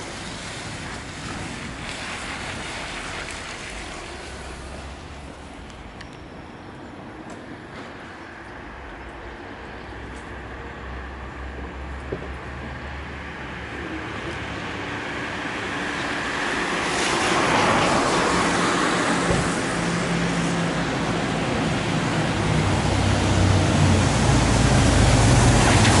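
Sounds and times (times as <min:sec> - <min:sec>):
low engine hum: 0:00.0 - 0:26.0
street traffic rushing: 0:00.0 - 0:26.0.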